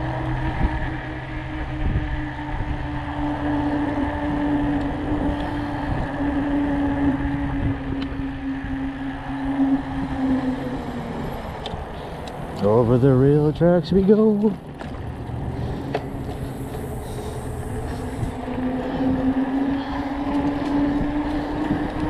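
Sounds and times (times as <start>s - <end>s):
electric bike motor humming: 0.0s - 22.0s
wind: 0.0s - 22.0s.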